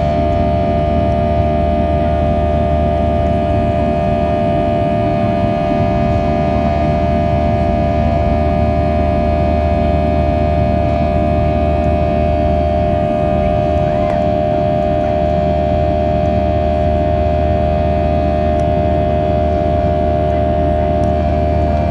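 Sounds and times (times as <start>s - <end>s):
jet engine whine: 0.0s - 21.9s
jet engines droning: 0.0s - 21.9s.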